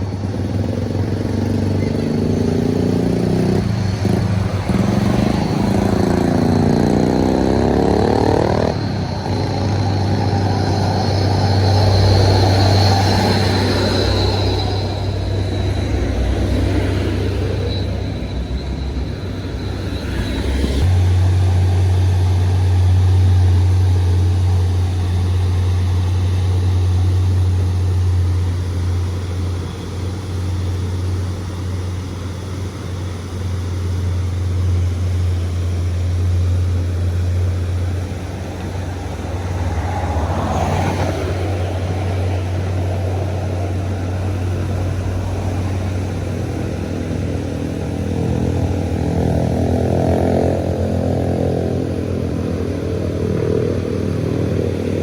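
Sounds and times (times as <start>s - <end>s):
vehicle passing loudly: 0.0s - 31.9s, 34.6s - 55.0s
low rumble of passing vehicles: 0.0s - 55.0s.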